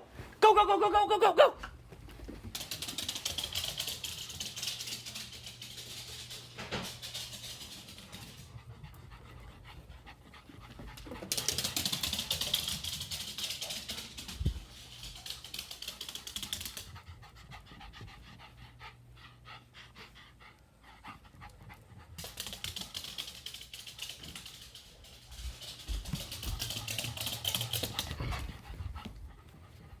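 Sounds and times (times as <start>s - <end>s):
dog panting: 2.8s - 30.0s.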